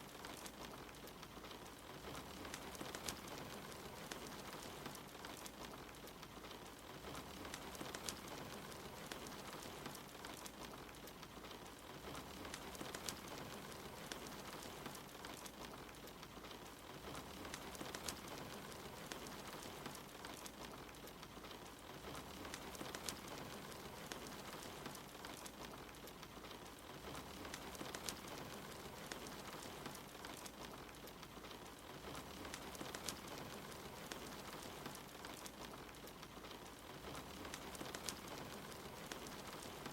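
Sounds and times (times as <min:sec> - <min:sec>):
soft steady rain: 0:00.0 - 0:39.9
wood fire crackling and popping: 0:00.0 - 0:39.9.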